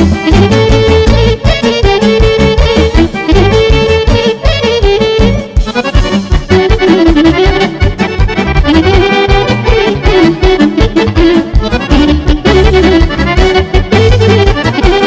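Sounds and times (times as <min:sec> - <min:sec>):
button accordion melody: 0:00.0 - 0:15.0
saxophone: 0:00.0 - 0:15.0
steady beat: 0:00.0 - 0:15.0.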